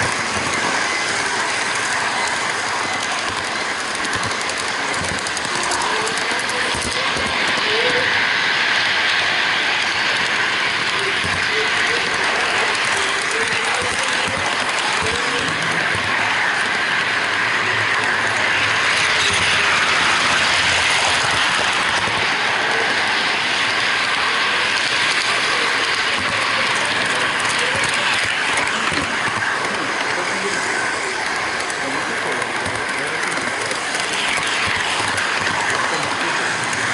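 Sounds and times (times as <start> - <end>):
model train wheels rattling on track: 0.0 - 36.9.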